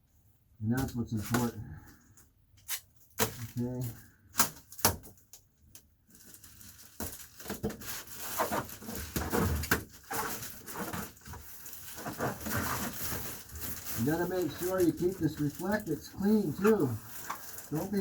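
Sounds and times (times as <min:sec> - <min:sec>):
foil insulation crinkling: 0:02.6 - 0:18.0.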